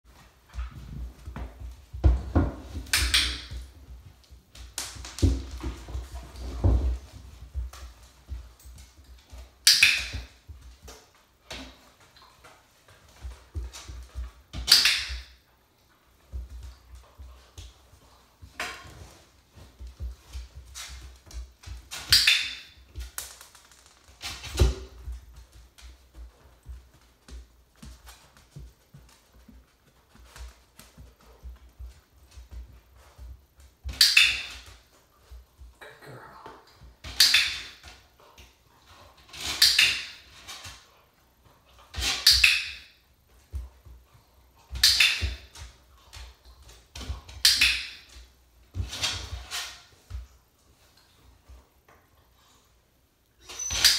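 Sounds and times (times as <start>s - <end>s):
puppy taps and scuffs on floor: 0.1s - 15.4s, 16.2s - 35.8s, 36.7s - 52.2s.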